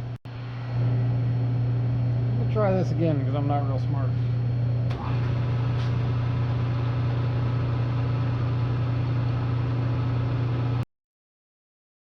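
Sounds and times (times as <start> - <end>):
milling machine humming: 0.0 - 10.8.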